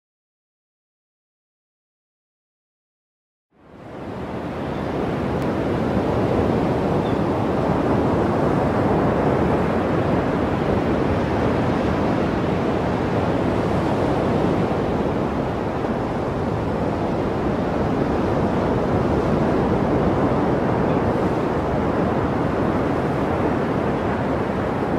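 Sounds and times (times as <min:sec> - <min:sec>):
surf washing over rocks: 0:04.2 - 0:24.9.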